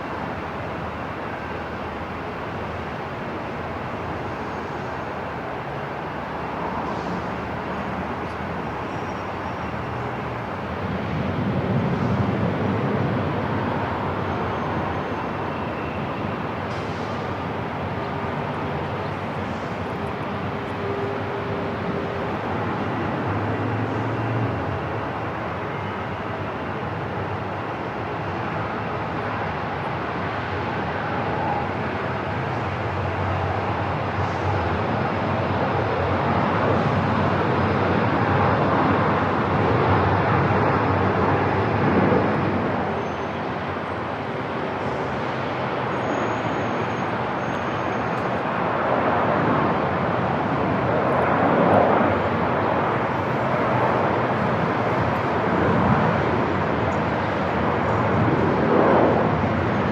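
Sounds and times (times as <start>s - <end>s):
airport rumbling ambience: 0.0s - 59.9s.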